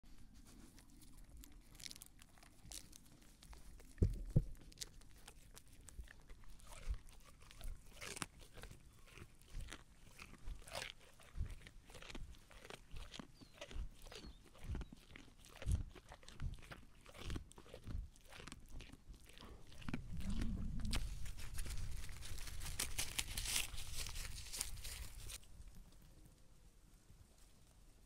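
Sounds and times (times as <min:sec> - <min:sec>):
sheep chewing with wet crunches: 0:00.1 - 0:25.4.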